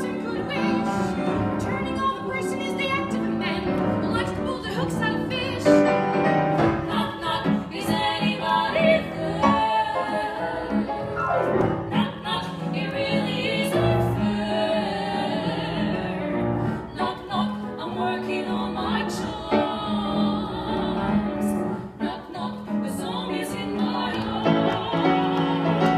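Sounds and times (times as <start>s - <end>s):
women singing in harmony: 0.0s - 5.9s, 6.6s - 25.9s
grand piano: 0.0s - 25.9s.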